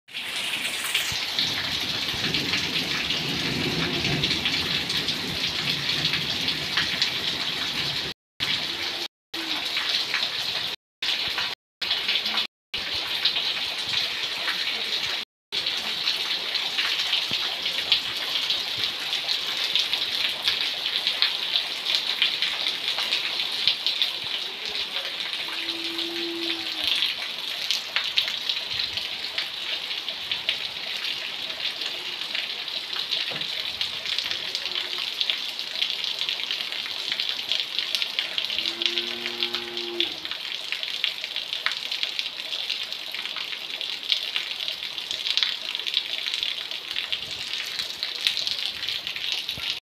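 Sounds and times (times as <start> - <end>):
heavy rain pouring: 0.1 - 49.8.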